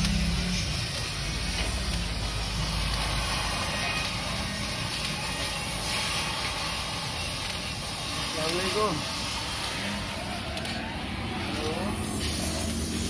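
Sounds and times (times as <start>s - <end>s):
cutting torch hissing: 0.0s - 13.0s.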